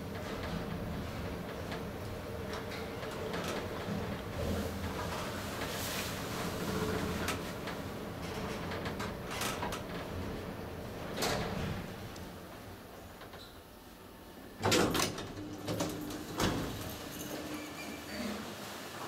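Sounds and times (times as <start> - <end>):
sliding doors opening: 0.0 - 13.7, 14.5 - 19.0
elevator running hum: 0.0 - 19.0.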